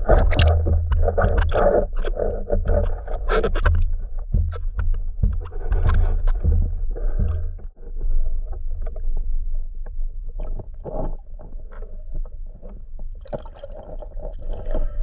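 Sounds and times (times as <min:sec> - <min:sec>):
underwater rumble of water: 0:00.0 - 0:15.0.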